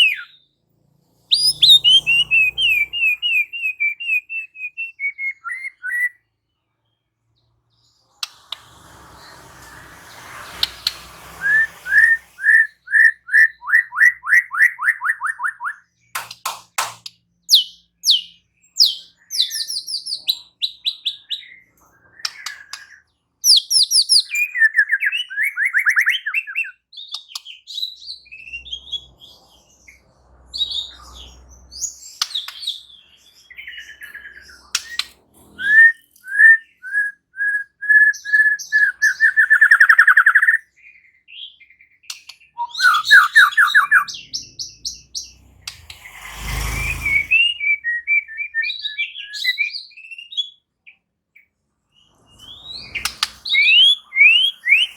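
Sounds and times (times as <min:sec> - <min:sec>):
bird singing varied song: 0:00.0 - 0:54.9.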